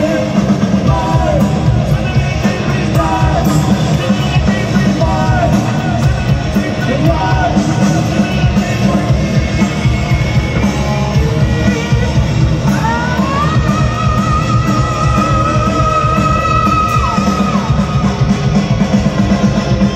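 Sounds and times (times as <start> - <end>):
person singing: 0.0 - 18.4
bass guitar: 0.0 - 19.9
drums: 0.0 - 19.9
electric guitars: 0.0 - 19.9.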